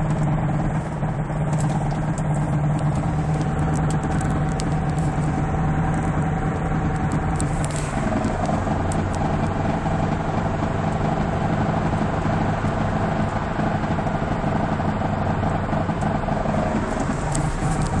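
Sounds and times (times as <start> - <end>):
car road noise and hum: 0.0 - 18.0
rear wheel beating: 0.0 - 18.0.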